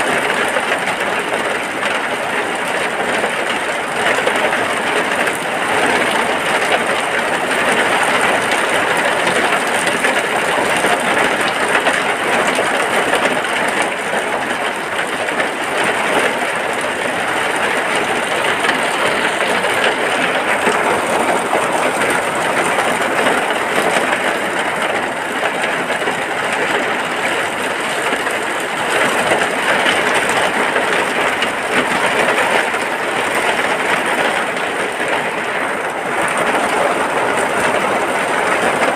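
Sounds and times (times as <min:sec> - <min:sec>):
steady rain on a hut: 0:00.0 - 0:38.9.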